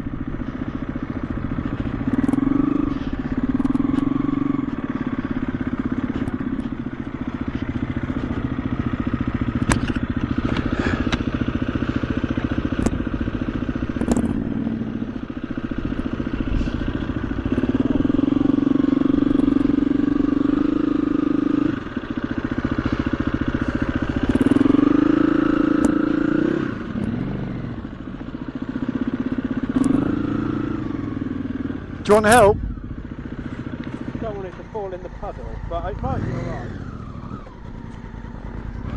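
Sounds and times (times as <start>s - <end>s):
dirt bike engine revving: 0.7s - 38.9s.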